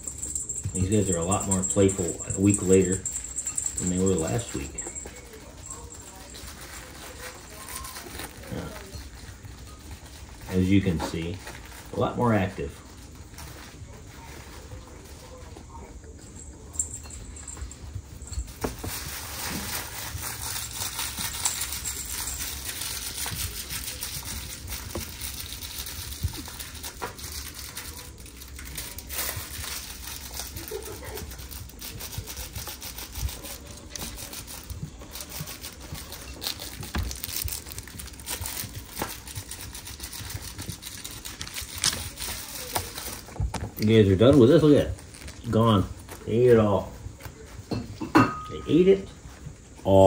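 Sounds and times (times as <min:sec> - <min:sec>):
puppies scuffling and rustling: 0:00.0 - 0:50.0.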